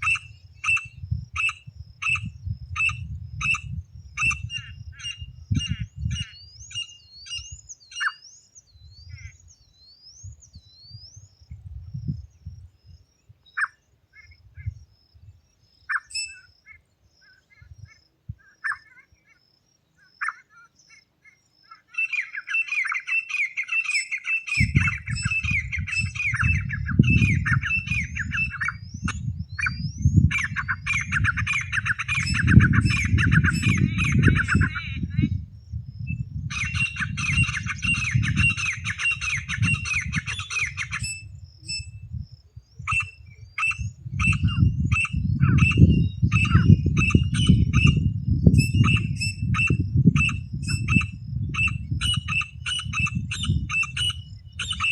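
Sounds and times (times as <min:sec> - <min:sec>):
francolin calls: 0:00.0 - 0:54.9.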